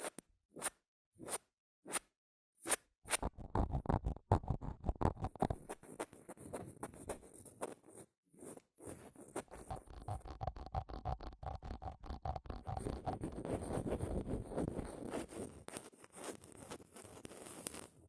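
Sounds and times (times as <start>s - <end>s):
scratching across microphone: 3.1s - 18.0s.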